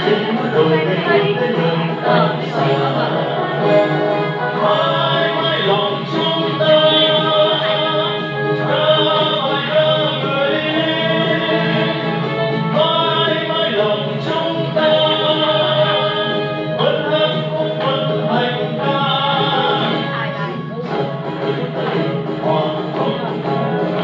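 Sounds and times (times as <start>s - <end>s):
song with singing and instruments: 0.0s - 24.0s.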